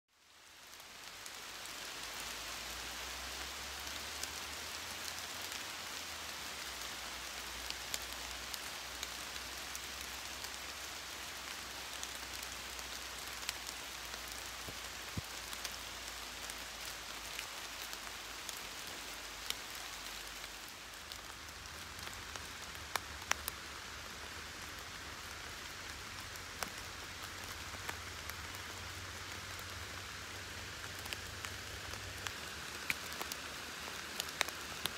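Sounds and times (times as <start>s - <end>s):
steady rain falling: 0.1s - 34.9s
raindrops ticking: 3.3s - 34.9s.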